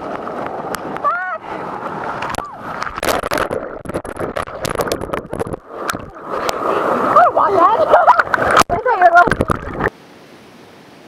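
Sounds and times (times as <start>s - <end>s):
whitewater rushing and splashing: 0.0s - 10.0s.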